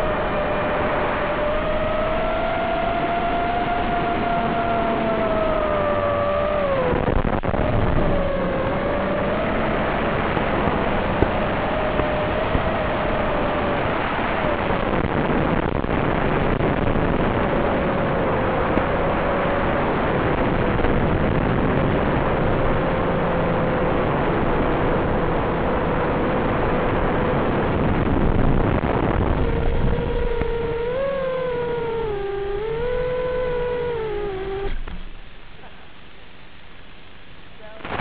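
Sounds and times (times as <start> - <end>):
quadcopter motors whining: 0.0 - 26.5, 27.2 - 35.1.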